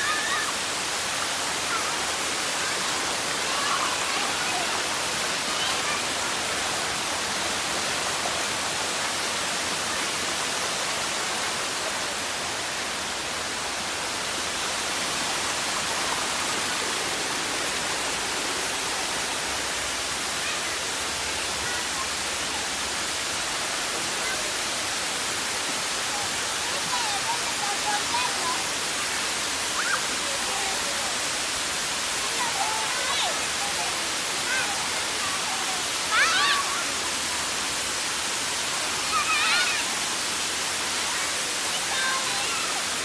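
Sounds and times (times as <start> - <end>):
water rushing over waterfall: 0.0 - 43.0.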